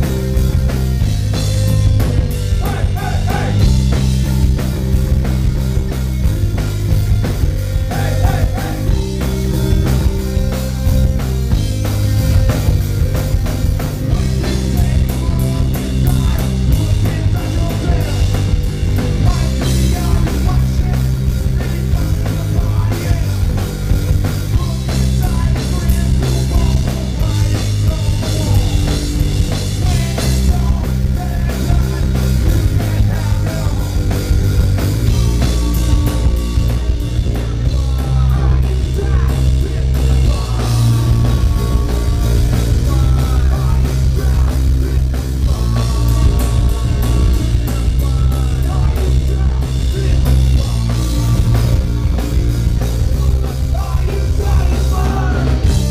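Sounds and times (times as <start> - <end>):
distorted electric guitar: 0.0 - 55.9
rock band playing live: 0.0 - 55.9.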